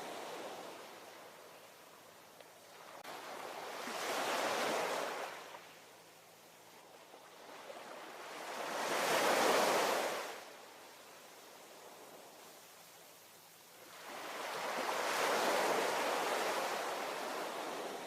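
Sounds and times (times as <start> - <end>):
ocean waves washing ashore: 0.0 - 18.0.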